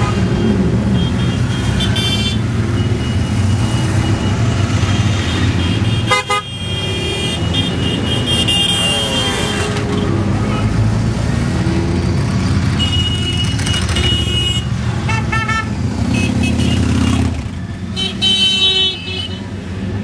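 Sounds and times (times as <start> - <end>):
horns tooting: 0.0 - 10.9, 12.6 - 19.6.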